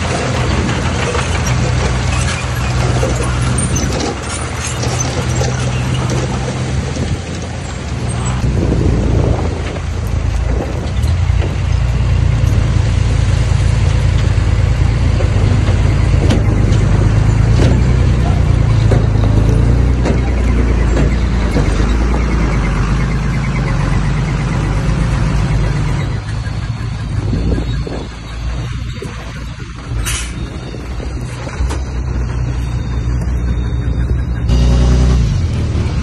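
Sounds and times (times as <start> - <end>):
diesel engine rumble: 0.0 - 36.0.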